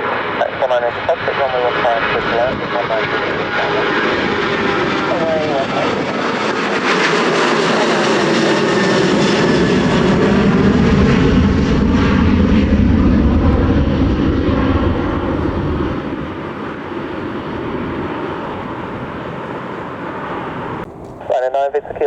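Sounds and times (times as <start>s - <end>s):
jet airliner engines running: 0.0s - 22.0s.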